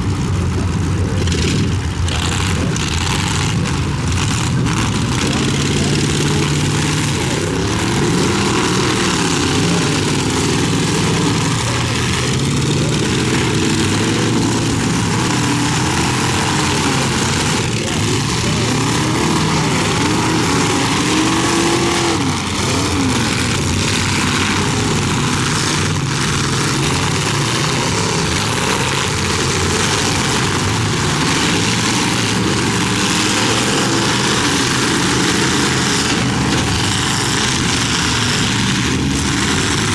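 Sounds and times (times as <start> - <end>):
car engines revving: 0.0 - 39.9
cars colliding: 1.6 - 39.9.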